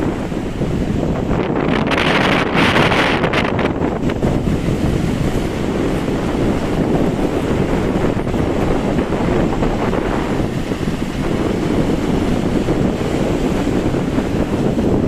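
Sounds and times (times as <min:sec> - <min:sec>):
sea surf washing: 0:00.0 - 0:15.0
wind buffeting microphone: 0:00.0 - 0:15.0.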